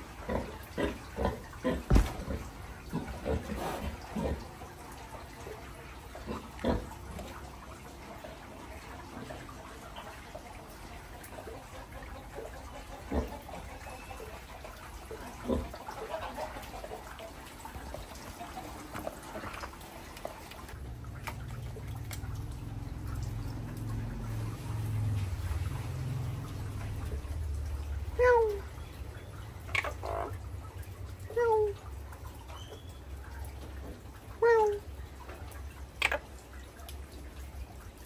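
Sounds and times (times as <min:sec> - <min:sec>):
water trickling and dripping: 0:00.0 - 0:38.0.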